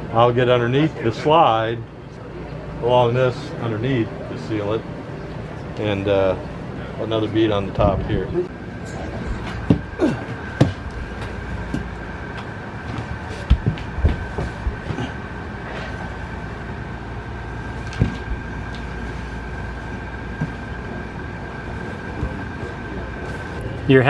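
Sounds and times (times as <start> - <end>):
mechanical hum with whine: 0.0 - 24.0.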